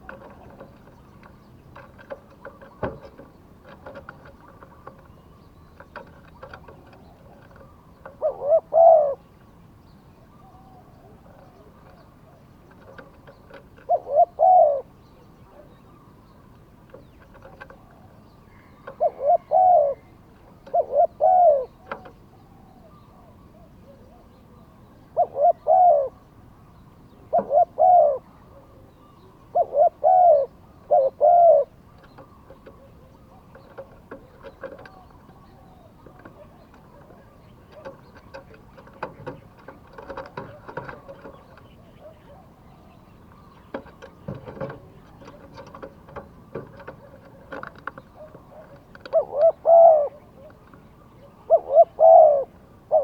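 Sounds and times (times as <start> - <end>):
dove cooing: 0.0 - 5.4, 6.0 - 9.3, 10.4 - 16.0, 17.0 - 26.3, 27.1 - 53.0.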